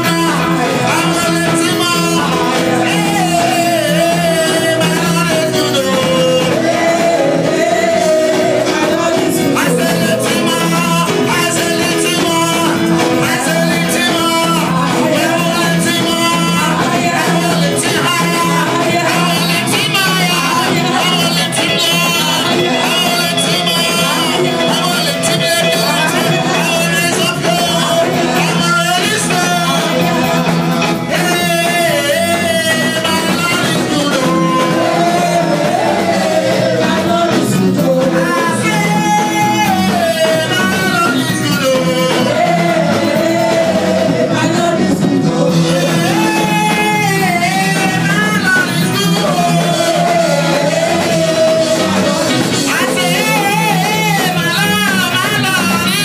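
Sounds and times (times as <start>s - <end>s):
band playing gospel music: 0.0s - 56.0s
vocalists singing: 0.0s - 56.0s.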